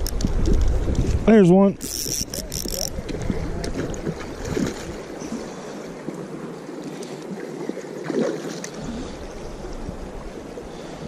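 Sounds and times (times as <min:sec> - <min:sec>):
flowing creek water: 0:00.0 - 0:11.0.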